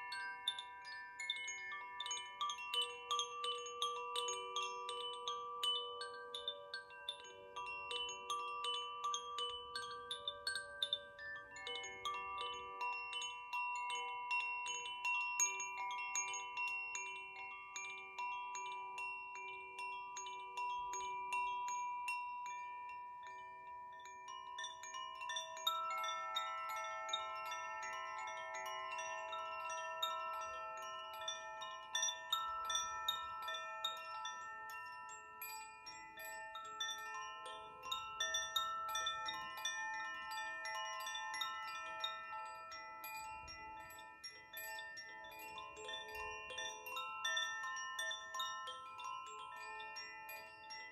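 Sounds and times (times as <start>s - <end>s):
wind chimes tinkling: 0.0s - 50.9s.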